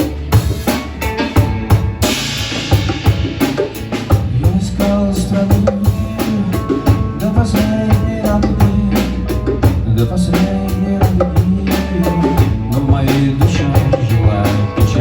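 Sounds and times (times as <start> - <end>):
drum kit beat: 0.0 - 15.0
held bass line: 0.0 - 15.0
live band playing: 0.0 - 15.0.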